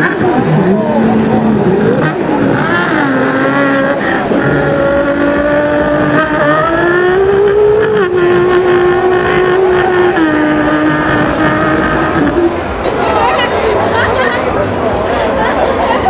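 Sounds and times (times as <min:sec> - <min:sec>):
man imitating car engine: 0:00.0 - 0:16.0.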